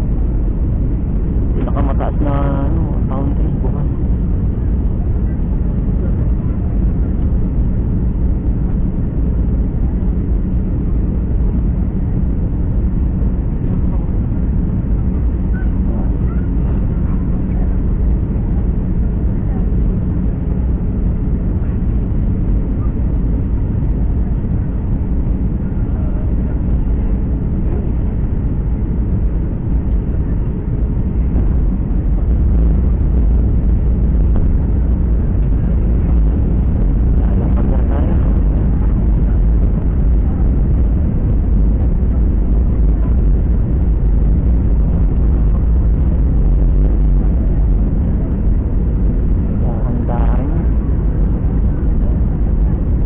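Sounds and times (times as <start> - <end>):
jet engines rumbling in cabin: 0.0 - 53.0.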